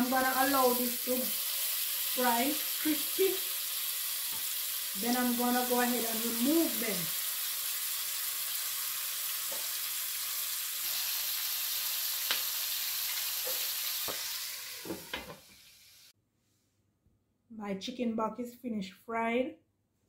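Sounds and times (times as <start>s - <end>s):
chicken sizzling in hot oil: 0.0s - 16.2s.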